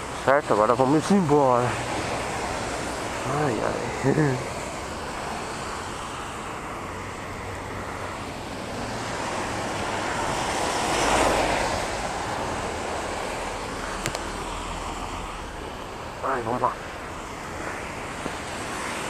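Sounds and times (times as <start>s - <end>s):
rain hissing on wet road: 0.0s - 19.0s
vehicle swishing past: 0.0s - 19.0s.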